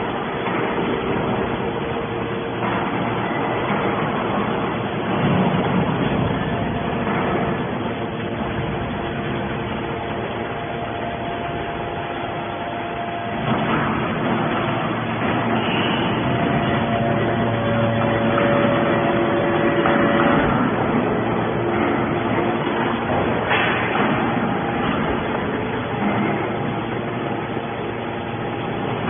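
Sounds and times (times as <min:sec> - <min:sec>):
hydraulic baler running: 0:00.0 - 0:29.0
held whining tones: 0:01.3 - 0:29.0.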